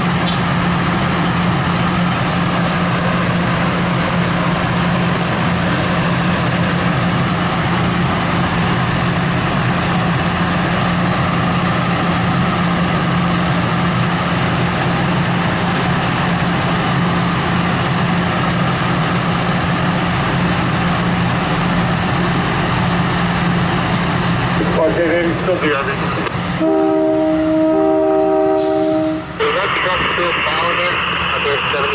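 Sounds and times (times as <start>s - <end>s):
diesel locomotive engine hum: 0.0s - 31.9s.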